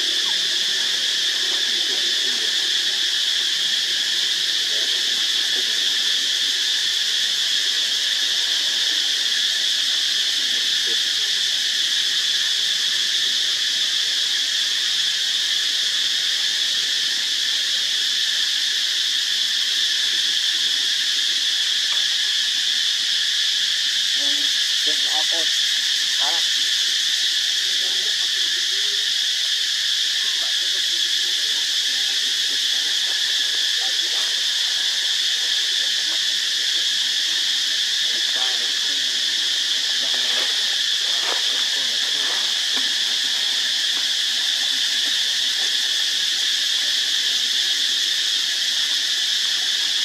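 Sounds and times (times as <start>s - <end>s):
insects droning: 0.0s - 50.0s.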